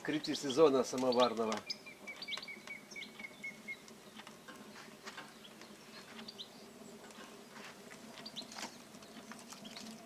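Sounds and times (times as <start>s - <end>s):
low steady hum: 0.0s - 10.0s
songbird chirps: 0.0s - 10.0s.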